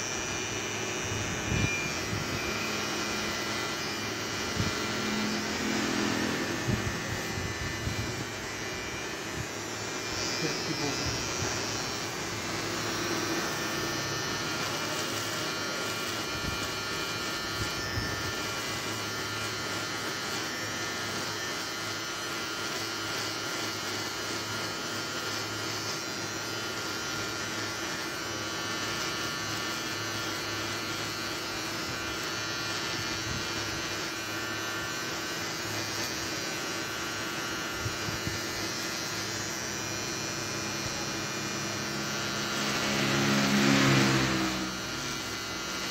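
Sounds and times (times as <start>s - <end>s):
electric beard trimmer humming: 0.0s - 45.9s.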